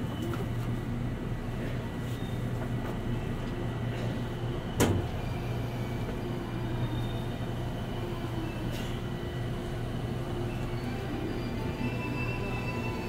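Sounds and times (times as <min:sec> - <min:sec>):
train car low hum: 0:00.0 - 0:13.0.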